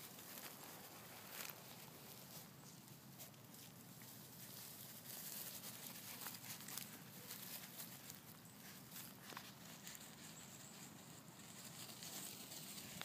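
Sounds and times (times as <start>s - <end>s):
feet rustling through grass: 0.0s - 13.0s.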